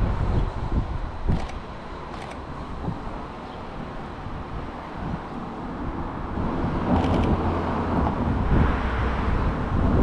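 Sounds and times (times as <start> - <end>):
vehicle passing with low rumble: 0.0 - 10.0.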